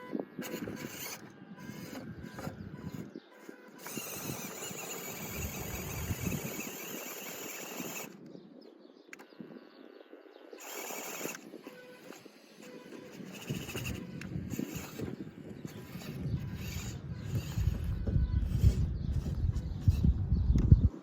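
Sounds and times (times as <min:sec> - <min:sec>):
small electric motor whining: 0:00.0 - 0:08.4, 0:10.4 - 0:20.9.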